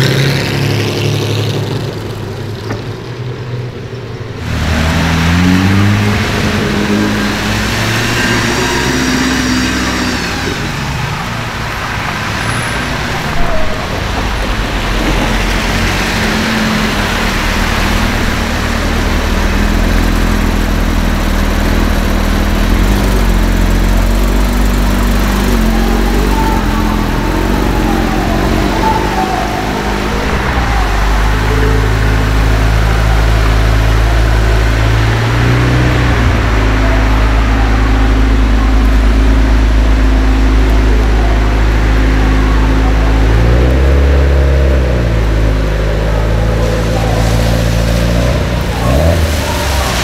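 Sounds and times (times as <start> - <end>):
car engine running and revving: 0.0 - 50.0.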